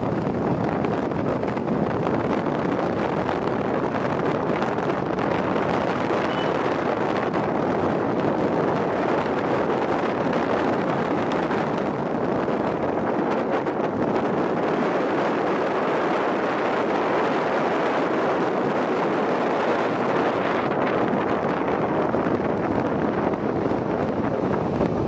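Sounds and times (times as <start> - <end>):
wind blowing over microphone: 0.0 - 25.0.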